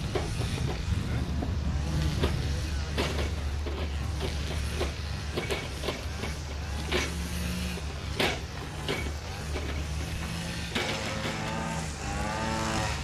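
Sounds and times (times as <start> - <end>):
diesel locomotive engine hum: 0.0 - 13.0
sharp clicks and knocks: 0.0 - 13.0.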